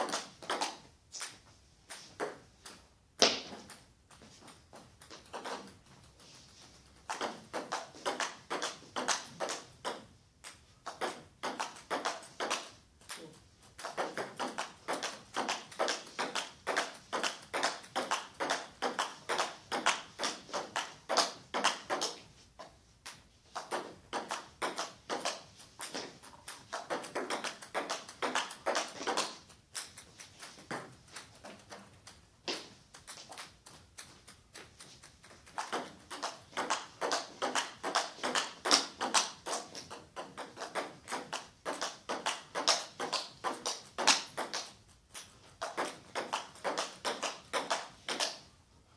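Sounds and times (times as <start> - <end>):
table tennis ball hits: 0.0 - 6.2, 6.9 - 33.3, 34.6 - 48.5.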